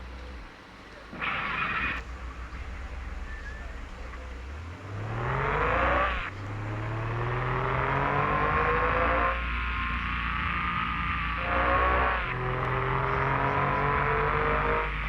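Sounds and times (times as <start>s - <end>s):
engine accelerating: 0.0s - 15.0s.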